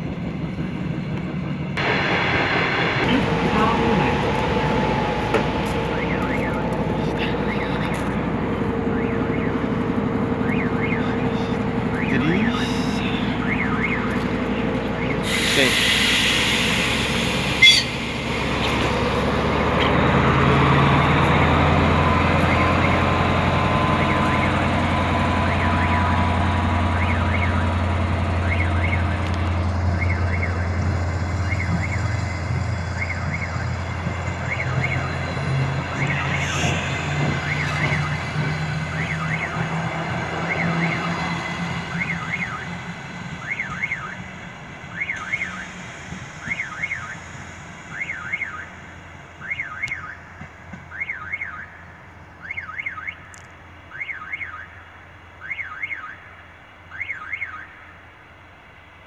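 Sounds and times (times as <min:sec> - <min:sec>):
diesel train engine droning: 0:00.0 - 0:59.0.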